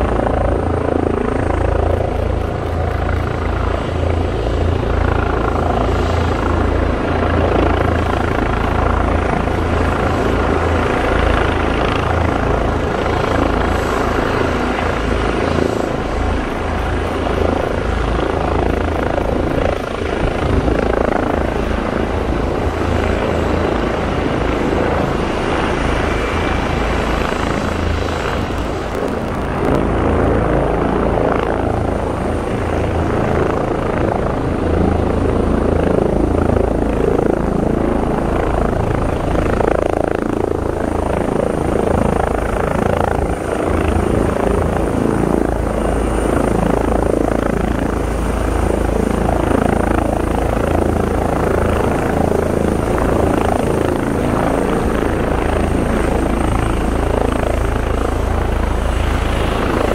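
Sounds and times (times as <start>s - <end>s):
helicopter rotors hovering: 0.0s - 59.9s.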